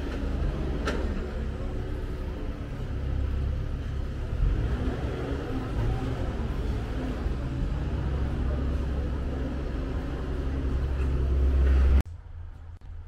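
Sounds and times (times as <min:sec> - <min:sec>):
deep engine rumble: 0:00.0 - 0:13.0.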